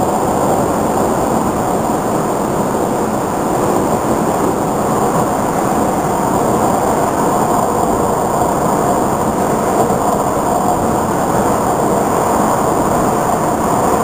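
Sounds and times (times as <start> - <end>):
train wheels on rail: 0.0 - 14.0.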